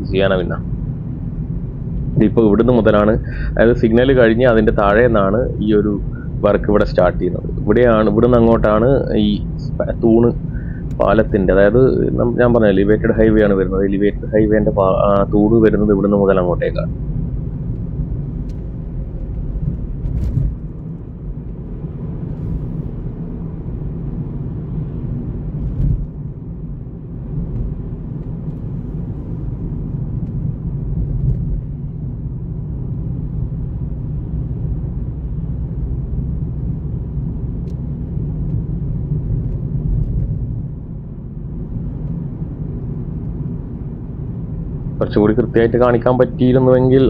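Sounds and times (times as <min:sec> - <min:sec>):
car engine and tyres rumbling: 0:00.0 - 0:47.0.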